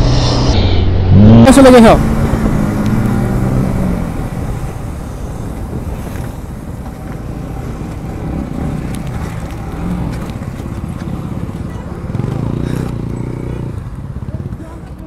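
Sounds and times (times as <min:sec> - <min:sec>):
motorcycle engine low rumble: 0:00.0 - 0:15.0.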